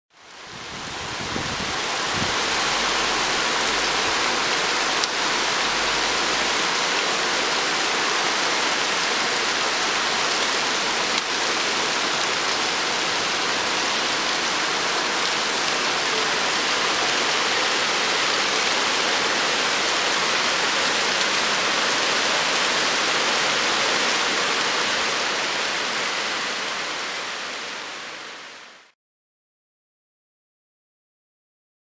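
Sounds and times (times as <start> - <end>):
heavy rain on street: 0.1 - 29.0.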